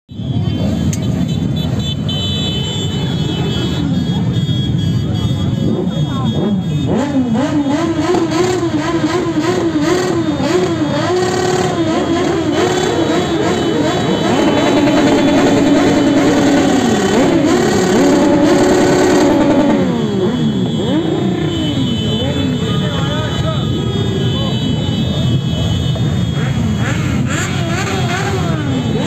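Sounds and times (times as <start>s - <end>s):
motorcycle engines revving: 0.1s - 29.0s.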